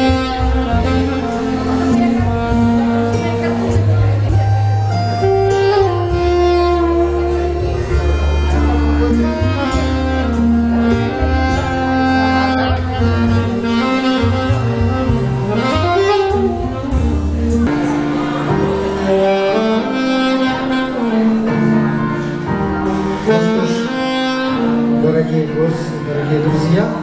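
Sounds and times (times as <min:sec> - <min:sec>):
alto saxophone slow melody: 0:00.0 - 0:27.0
backing track with bass line: 0:00.0 - 0:27.0.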